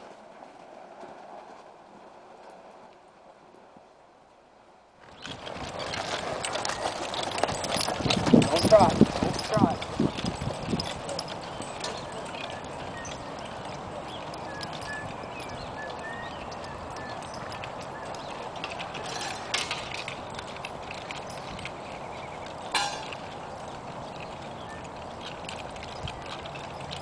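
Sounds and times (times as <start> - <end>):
muffled hoofbeats on dirt: 5.0 - 27.0.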